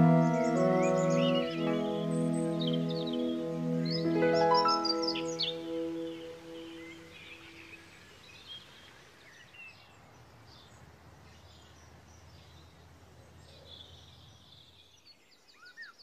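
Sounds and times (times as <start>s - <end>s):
bird chirps: 0.0s - 12.8s.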